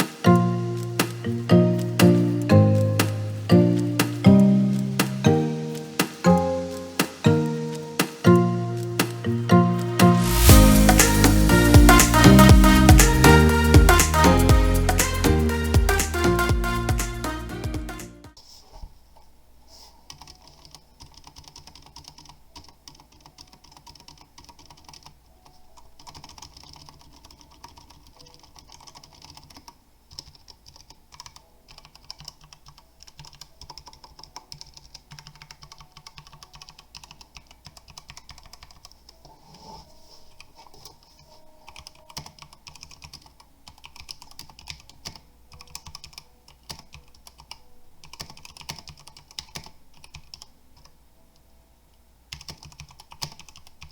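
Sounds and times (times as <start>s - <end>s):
mechanical keyboard typing: 0.0s - 17.2s, 20.1s - 39.6s, 40.3s - 50.9s, 52.3s - 53.9s.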